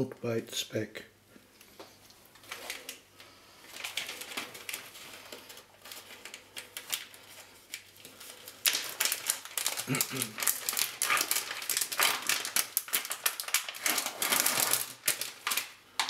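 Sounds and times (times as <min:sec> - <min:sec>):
plastic film crackling and rustling: 0:01.6 - 0:16.0.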